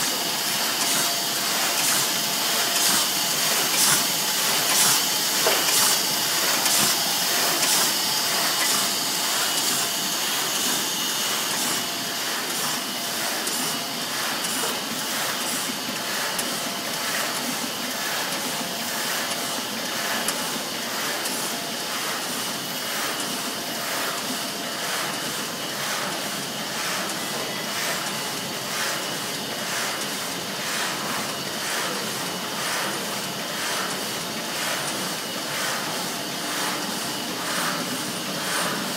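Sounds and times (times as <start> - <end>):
die-cutting press running: 0.0 - 38.9.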